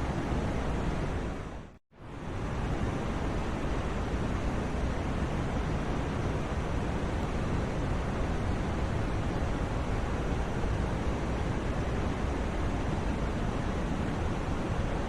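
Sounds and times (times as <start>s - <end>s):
steady noise hiss: 0.0s - 15.0s.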